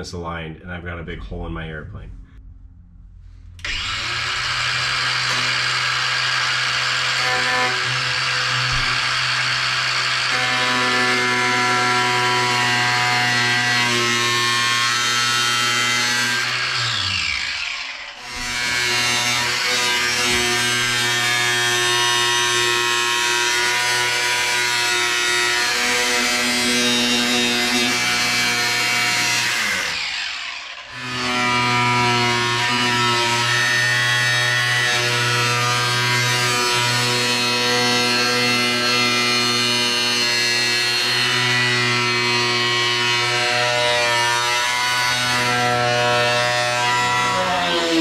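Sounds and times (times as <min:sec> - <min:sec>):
cut-off tool cutting metal sheet: 0:03.6 - 0:48.0.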